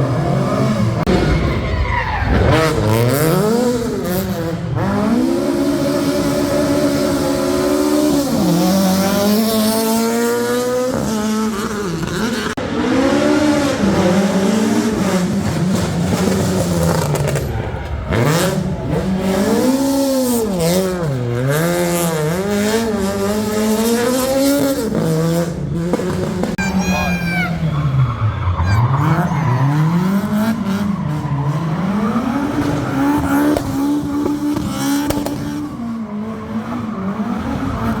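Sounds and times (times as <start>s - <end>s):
rally car engine revving: 0.0s - 26.6s, 27.5s - 38.0s.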